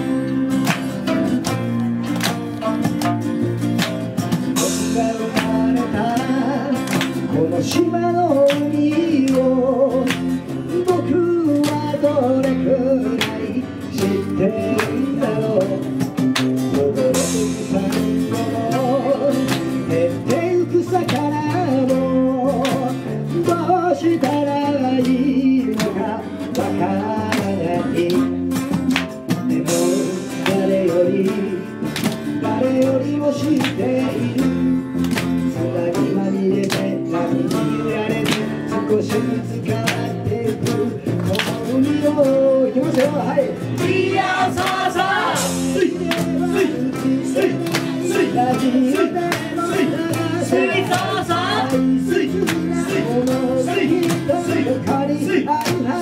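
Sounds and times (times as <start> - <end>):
man singing: 0.0 - 1.5, 4.5 - 56.0
strummed ukulele and guitars: 0.0 - 56.0.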